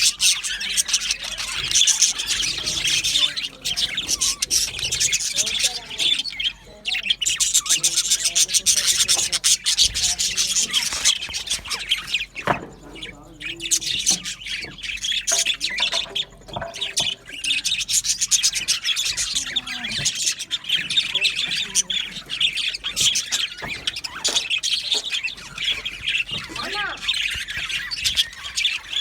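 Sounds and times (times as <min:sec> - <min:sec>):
budgerigars chattering: 0:00.0 - 0:29.0.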